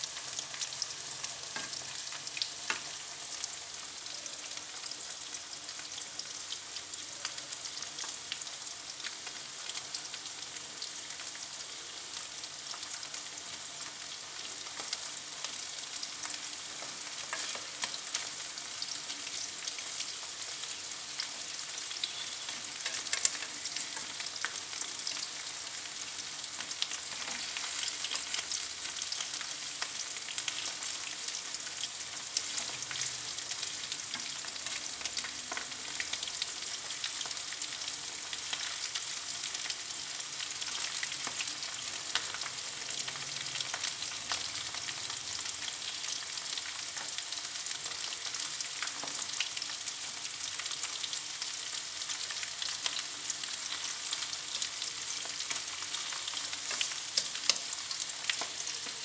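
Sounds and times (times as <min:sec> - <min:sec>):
shrimp frying in hot oil: 0:00.0 - 0:59.0.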